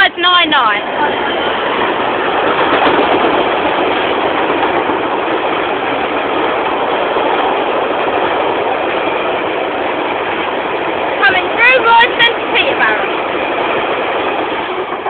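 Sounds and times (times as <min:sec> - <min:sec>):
freight train wagons rolling: 0:00.0 - 0:15.0.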